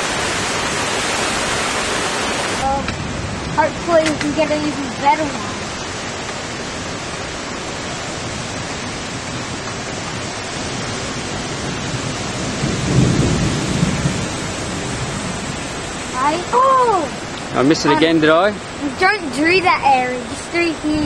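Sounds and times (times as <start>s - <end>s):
strong storm wind rushing: 0.0s - 21.0s
thunder rumble: 0.0s - 21.0s.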